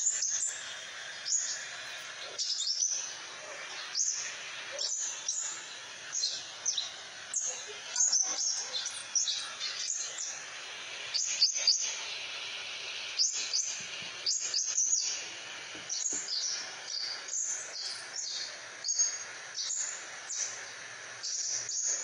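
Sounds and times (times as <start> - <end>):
bird chirping: 0.0 - 22.0
steady hiss: 0.0 - 22.0.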